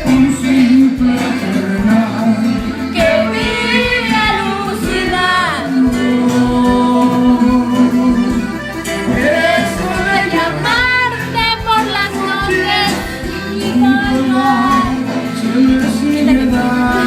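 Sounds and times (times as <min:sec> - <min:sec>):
music with person singing: 0:00.0 - 0:17.0.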